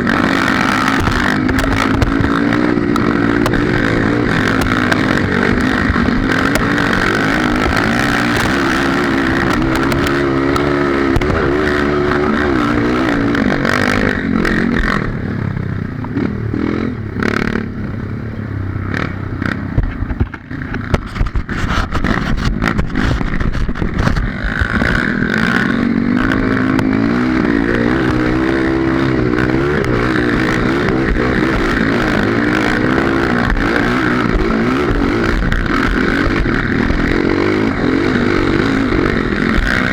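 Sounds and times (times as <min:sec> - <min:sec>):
sharp knocks and clatter: 0:00.0 - 0:15.1, 0:19.5 - 0:39.9
trail bike engine revving: 0:00.0 - 0:39.9.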